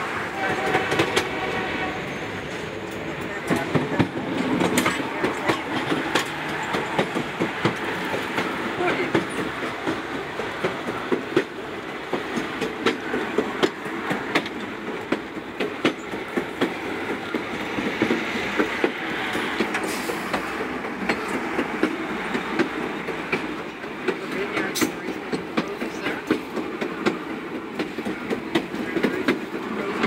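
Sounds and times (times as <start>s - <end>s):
train rail rumble: 0.0s - 30.0s
wheels clicking over rails: 2.5s - 30.0s.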